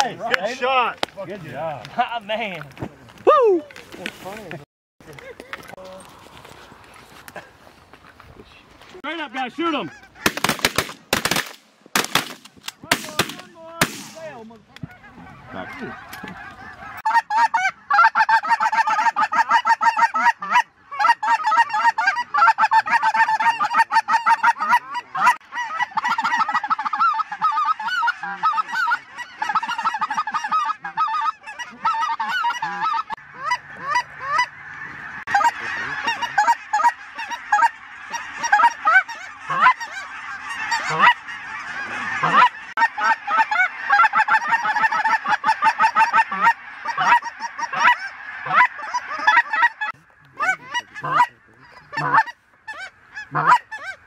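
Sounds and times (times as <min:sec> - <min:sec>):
geese honking: 0:09.0 - 0:11.4, 0:12.0 - 0:54.0.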